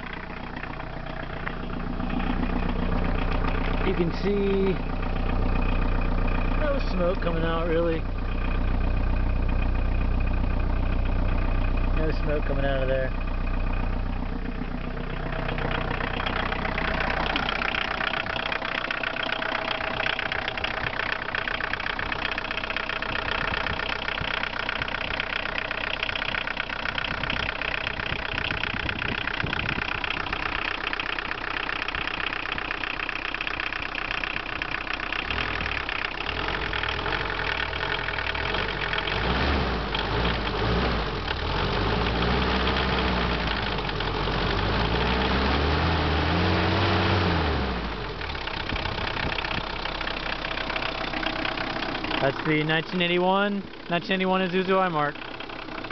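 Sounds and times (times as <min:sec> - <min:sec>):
diesel engine idling with clatter: 0:00.0 - 0:55.9.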